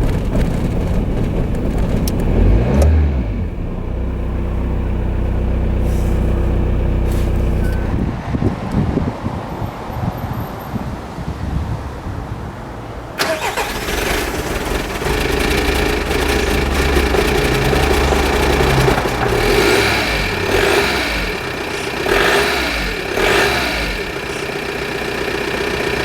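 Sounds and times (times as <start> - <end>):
car engine idling: 0.0 - 8.2, 13.2 - 26.0
diesel engine cranking and starting: 0.0 - 8.8, 13.2 - 26.0.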